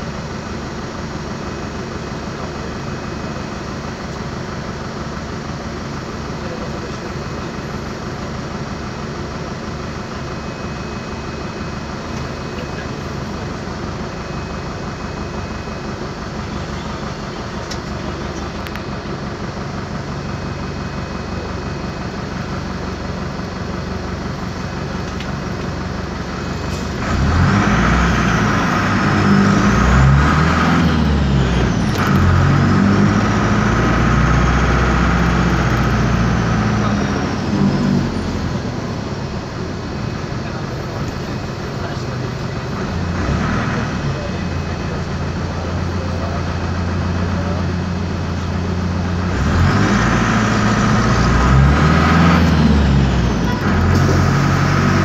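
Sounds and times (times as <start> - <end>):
bus diesel engine idling: 0.0 - 55.0
bus engine revving through gears: 0.0 - 55.0.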